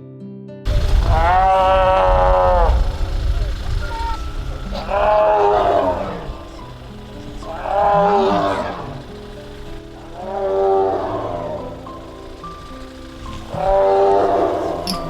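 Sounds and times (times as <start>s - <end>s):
background music: 0.7s - 15.0s
tiger moaning cries: 0.8s - 15.0s.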